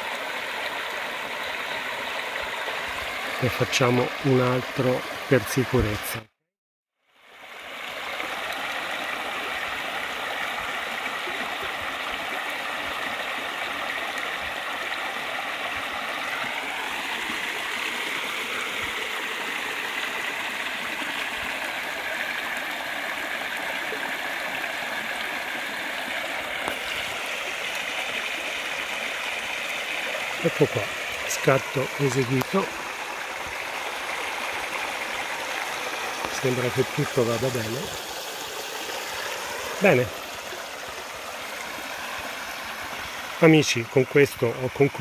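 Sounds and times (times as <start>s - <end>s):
stream rushing over stones: 0.0s - 6.2s, 7.2s - 45.0s.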